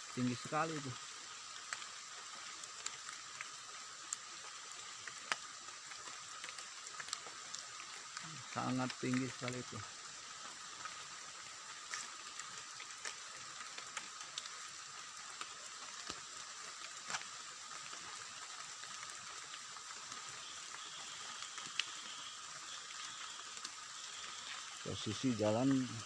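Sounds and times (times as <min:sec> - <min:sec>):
forest ambience hiss: 0:00.0 - 0:26.0.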